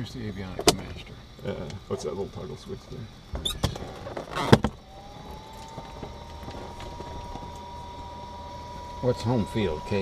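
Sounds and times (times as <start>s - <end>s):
electric whine: 0.0s - 10.0s.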